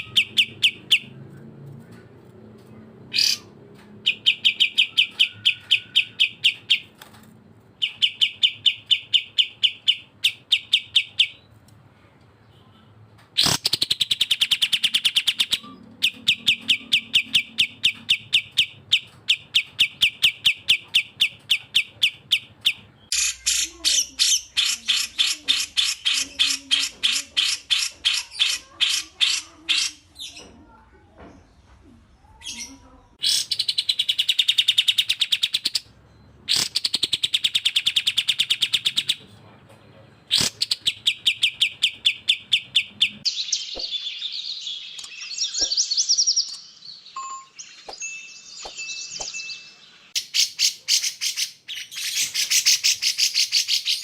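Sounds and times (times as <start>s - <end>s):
songbirds chattering song: 0.0s - 54.0s.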